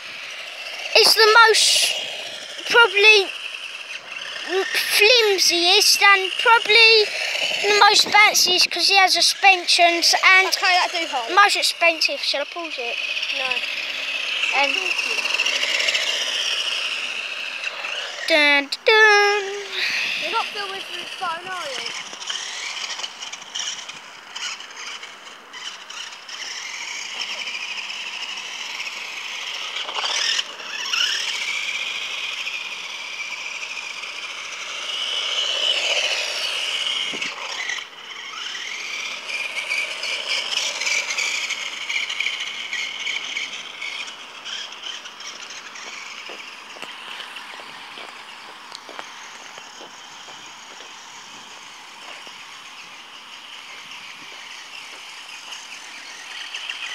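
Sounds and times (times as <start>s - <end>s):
electric motor whining: 0.0s - 56.9s
rattling: 0.0s - 56.9s.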